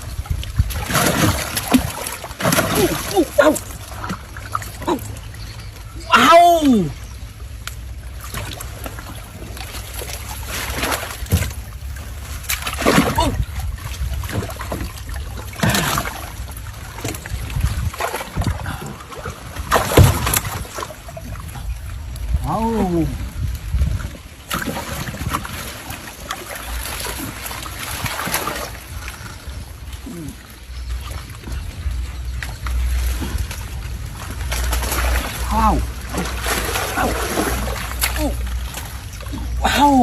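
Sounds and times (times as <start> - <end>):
water sloshing and splashing: 0.0 - 40.0.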